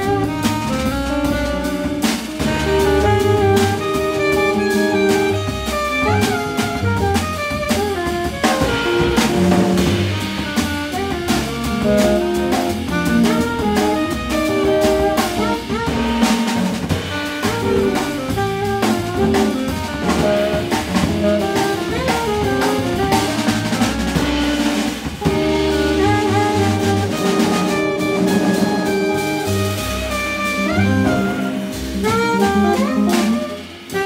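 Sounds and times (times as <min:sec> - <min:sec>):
alto saxophone melody: 0:00.0 - 0:34.0
drum kit with cymbals and snare: 0:00.0 - 0:34.0
walking double bass: 0:00.0 - 0:34.0.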